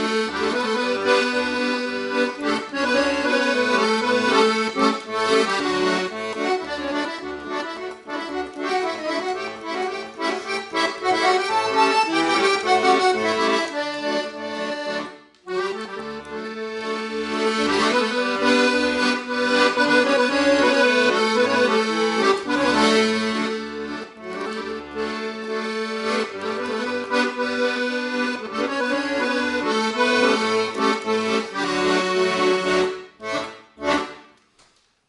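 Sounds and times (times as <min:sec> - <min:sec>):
accordion playing melody: 0:00.0 - 0:34.5.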